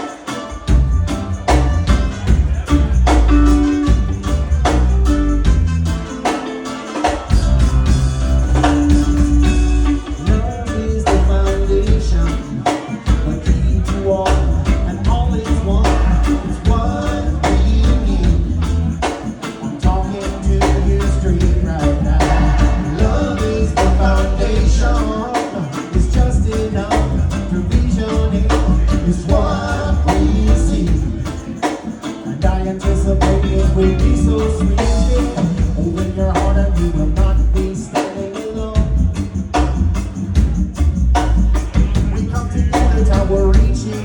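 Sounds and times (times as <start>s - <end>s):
reggae music with singer: 0.0s - 44.0s.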